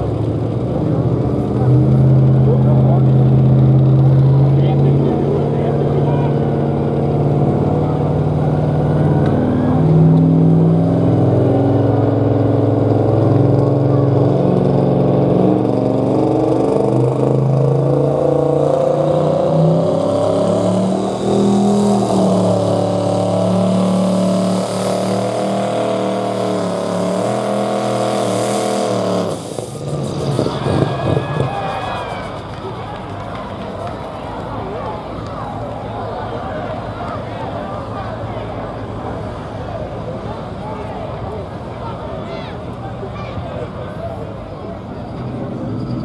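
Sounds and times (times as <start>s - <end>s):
diesel truck engine under load: 0.0s - 46.0s.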